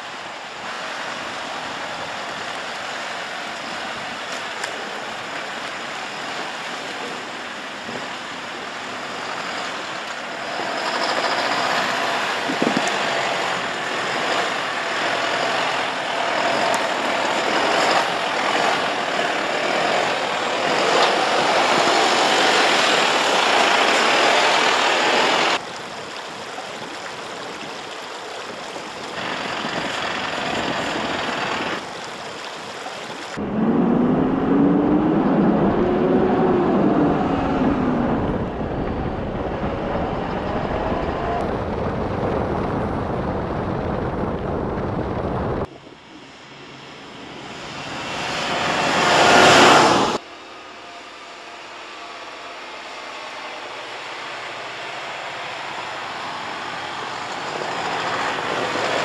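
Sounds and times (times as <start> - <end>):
truck diesel engine running: 0.0 - 26.0, 33.4 - 59.0.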